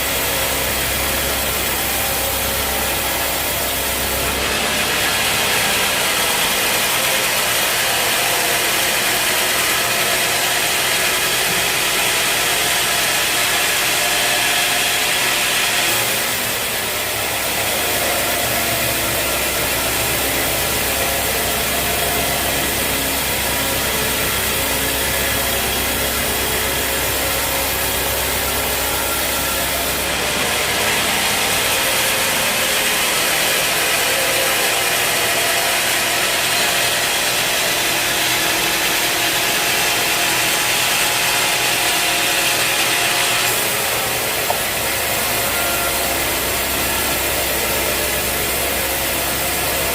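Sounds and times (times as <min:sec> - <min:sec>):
sawmill blade sawing log: 0:00.0 - 0:49.9.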